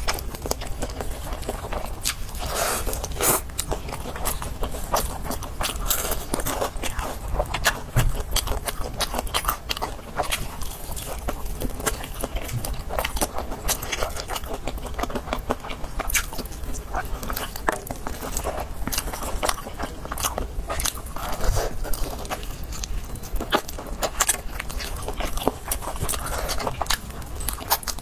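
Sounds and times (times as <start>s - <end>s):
chewing crunchy fried chicken: 0.0s - 28.0s.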